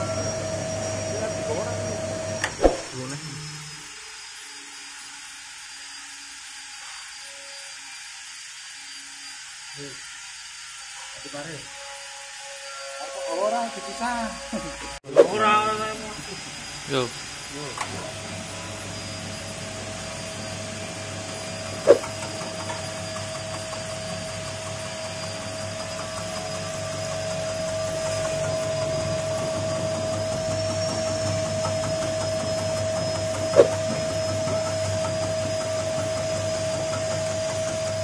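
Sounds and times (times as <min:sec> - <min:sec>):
slicing machine whine and hum: 0:00.0 - 0:38.0.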